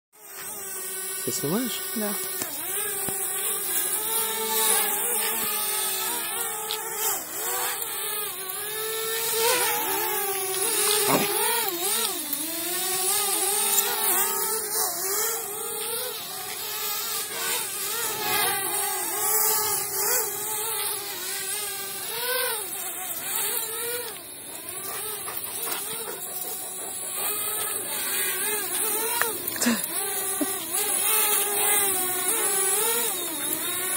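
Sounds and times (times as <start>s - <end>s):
drone propellers buzzing: 0.2s - 33.9s.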